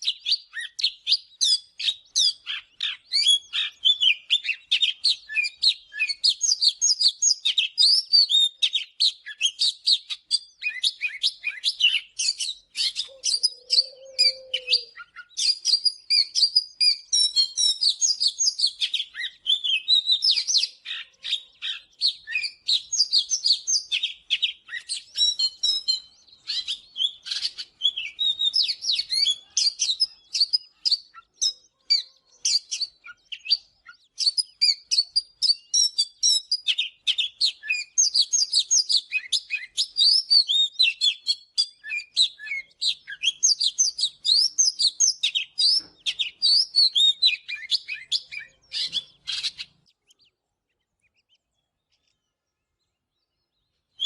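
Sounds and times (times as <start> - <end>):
bird singing varied whistled notes: 0.0 - 54.0.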